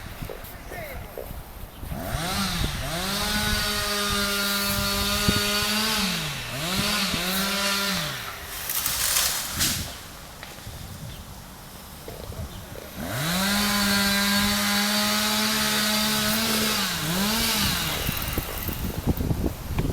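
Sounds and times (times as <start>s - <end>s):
chainsaw revving: 1.8s - 10.4s, 12.1s - 19.5s.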